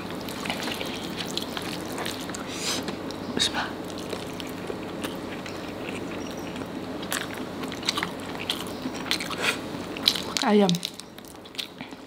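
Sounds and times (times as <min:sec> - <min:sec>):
chewing and mouth smacks: 0:00.0 - 0:12.0.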